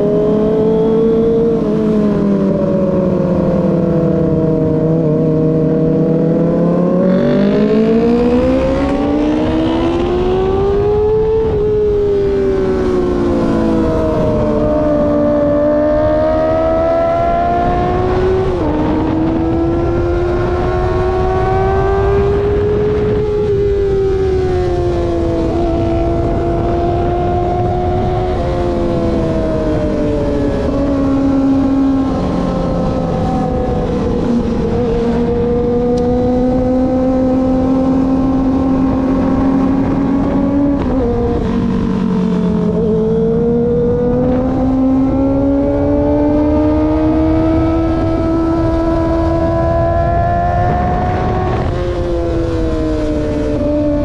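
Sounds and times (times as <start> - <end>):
motorcycle engine revving: 0.0 - 54.0
wind rushing: 5.0 - 54.0.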